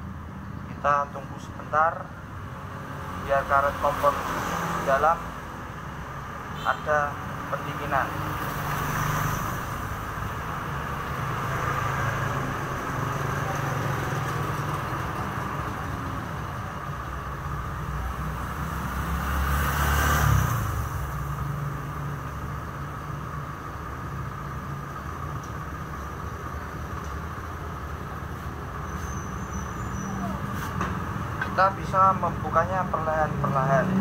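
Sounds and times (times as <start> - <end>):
vehicle passing by: 2.5 - 6.5, 7.2 - 25.4, 26.2 - 34.0.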